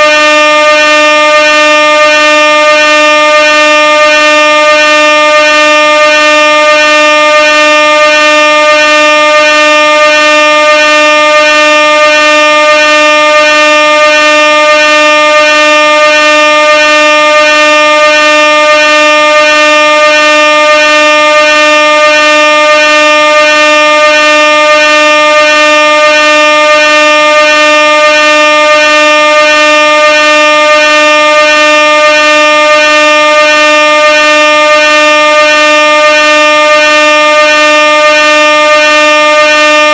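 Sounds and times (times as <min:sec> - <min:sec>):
air horn blaring: 0:00.0 - 0:39.9.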